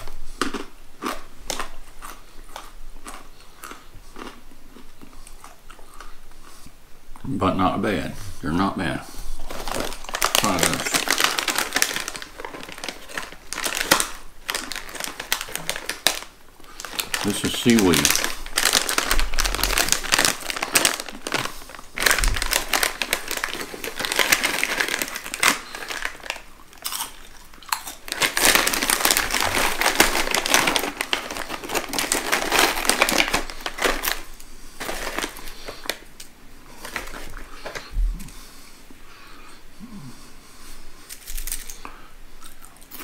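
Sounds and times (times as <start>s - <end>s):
plastic snack bag crinkling: 0.0s - 6.1s, 8.6s - 38.5s, 41.1s - 43.0s.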